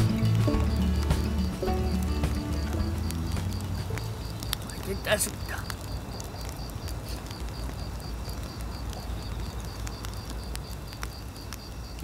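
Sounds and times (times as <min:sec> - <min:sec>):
insect chirping: 0:00.0 - 0:12.0
wood fire crackling and popping: 0:00.0 - 0:12.0.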